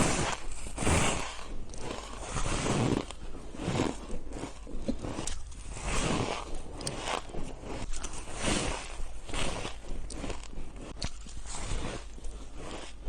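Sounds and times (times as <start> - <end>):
chewing crunchy ice: 0.0 - 13.0.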